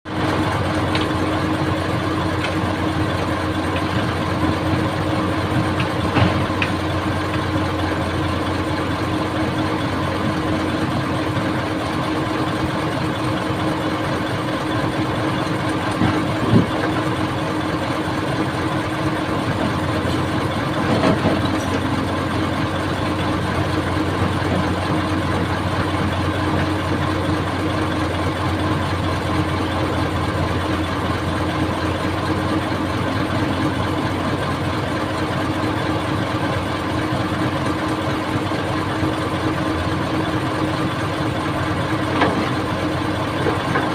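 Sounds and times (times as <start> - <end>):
diesel engine running: 0.1 - 43.9.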